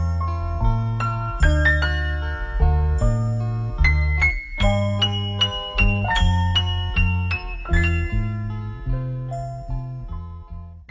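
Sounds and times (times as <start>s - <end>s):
bass line: 0.0s - 10.9s.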